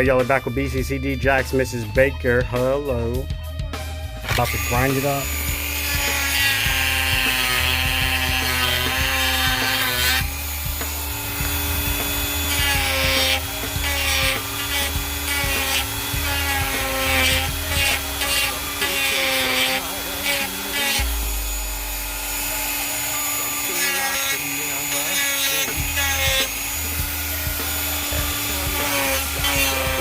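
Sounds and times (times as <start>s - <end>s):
grinder motor whine: 4.2s - 30.0s.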